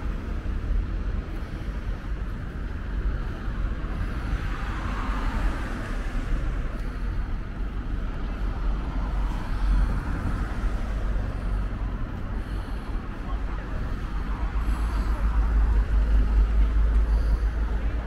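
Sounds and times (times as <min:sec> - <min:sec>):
traffic low rumble: 0:00.0 - 0:18.0
tyre noise of passing cars: 0:00.0 - 0:18.0.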